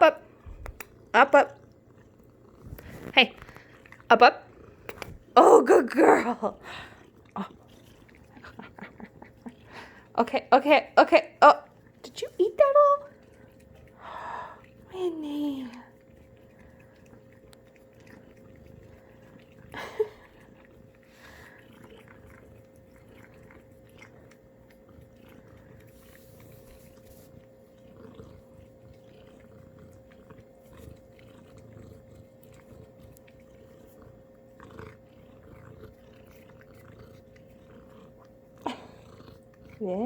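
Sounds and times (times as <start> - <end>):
cat licking and chewing: 0.1 - 40.0.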